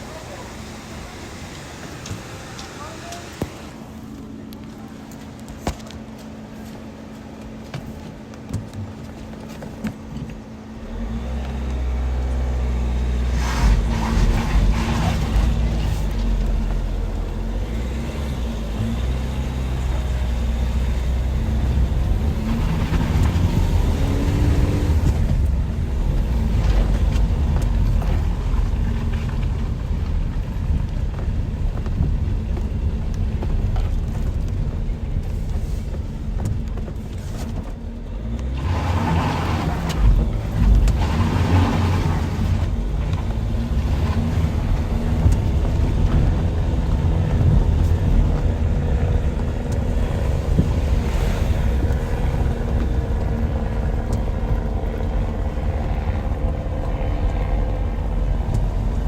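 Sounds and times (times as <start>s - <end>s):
road traffic rumble: 0.0s - 59.0s
vehicles passing by: 0.0s - 59.0s.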